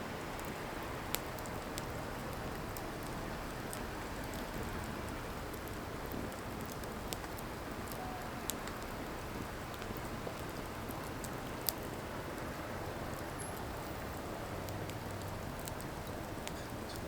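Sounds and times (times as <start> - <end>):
firewood crackling and popping: 0.1 - 17.0.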